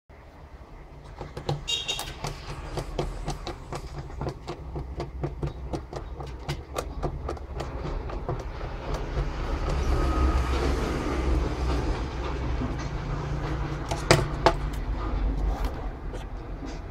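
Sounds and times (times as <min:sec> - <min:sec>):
screwdriver scraping: 0:01.0 - 0:16.9.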